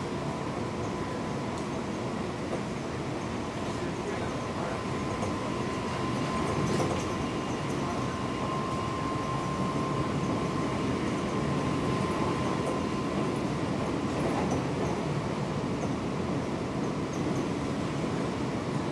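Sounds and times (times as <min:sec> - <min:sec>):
train wheels rumbling: 0:00.0 - 0:18.9.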